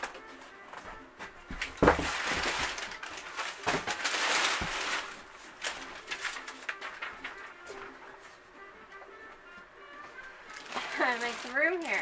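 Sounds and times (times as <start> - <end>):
packing paper rustling and crinkling: 0.0 - 8.4, 10.0 - 12.0.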